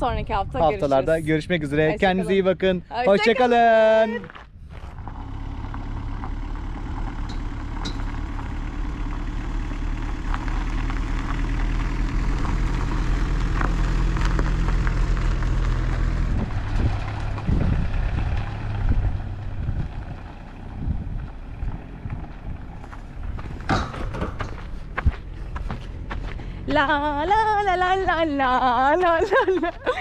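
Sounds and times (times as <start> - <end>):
trailer rattling: 0.0 - 30.0
van engine running: 0.0 - 30.0.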